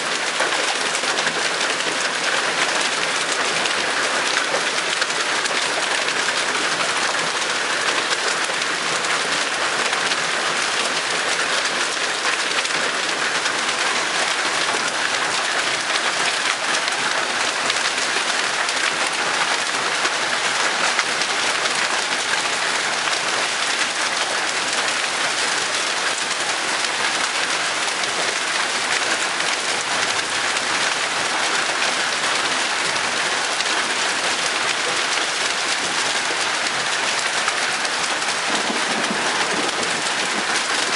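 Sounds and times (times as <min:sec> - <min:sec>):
hail and rain falling: 0:00.0 - 0:40.9.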